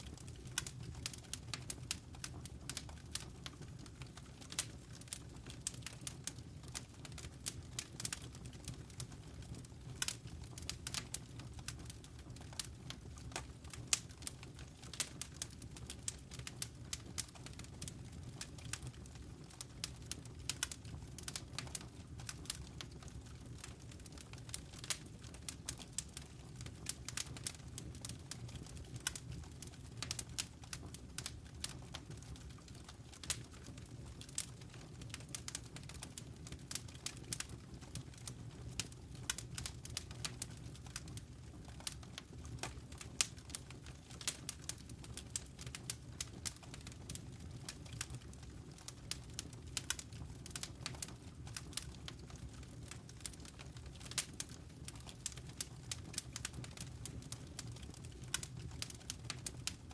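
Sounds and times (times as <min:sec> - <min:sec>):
fire crackling and popping: 0:00.0 - 0:59.9
low rumble of burning: 0:00.0 - 0:59.9.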